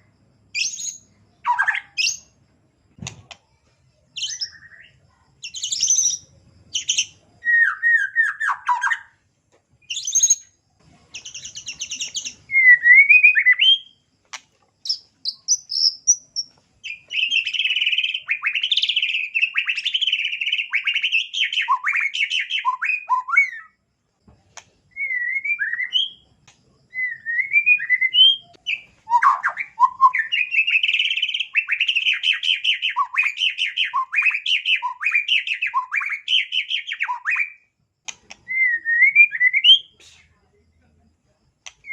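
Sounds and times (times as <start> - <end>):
bird singing varied song: 0.0 - 2.4, 3.0 - 9.2, 9.8 - 23.8, 24.6 - 40.0.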